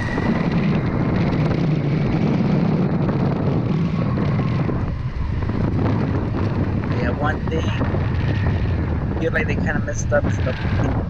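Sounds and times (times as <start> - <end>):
tires rolling on pavement: 0.0 - 11.0
wind buffeting microphone: 0.0 - 11.0.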